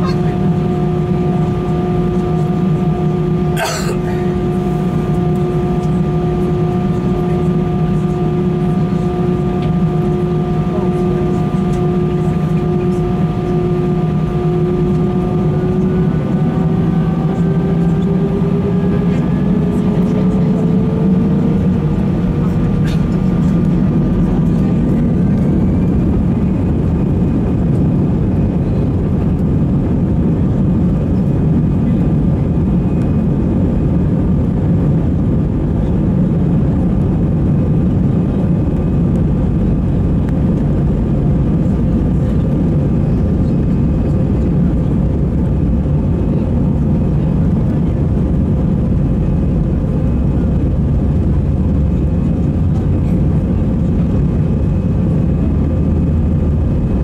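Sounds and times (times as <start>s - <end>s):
jet engine cabin rumble: 0.0s - 57.0s
thin steady whine: 0.0s - 57.0s.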